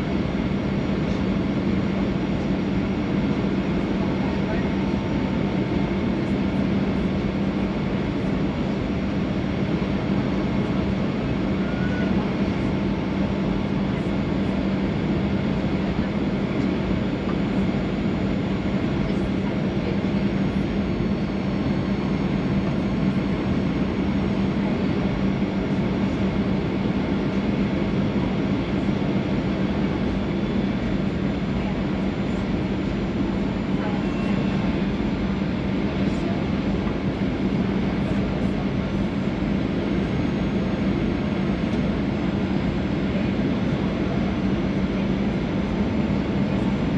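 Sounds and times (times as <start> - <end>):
airplane cabin engine hum: 0.0 - 46.9.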